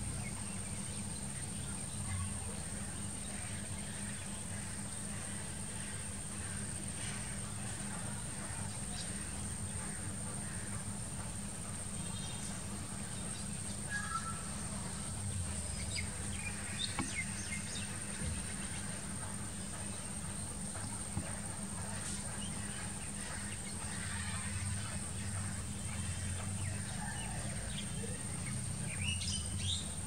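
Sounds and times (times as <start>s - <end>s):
low background noise: 0.0s - 30.0s.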